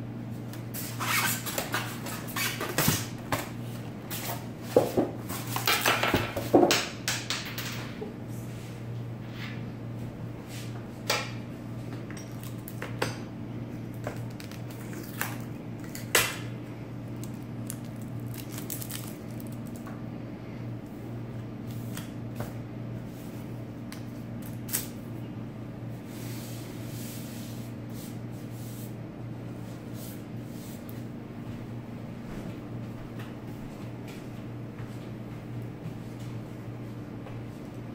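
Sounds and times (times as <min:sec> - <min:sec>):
steady low hum: 0:00.0 - 0:05.6, 0:06.2 - 0:37.9.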